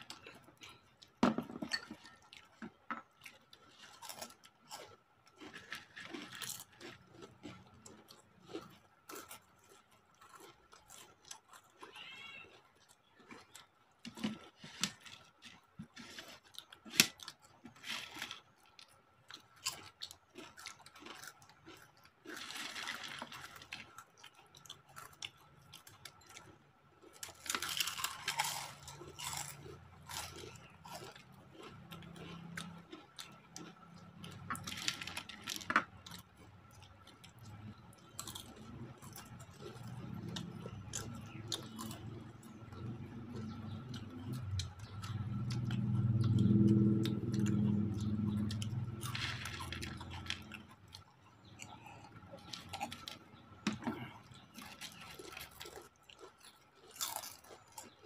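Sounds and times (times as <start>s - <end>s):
people crunching crisp snacks: 0.0s - 1.2s, 1.9s - 58.0s.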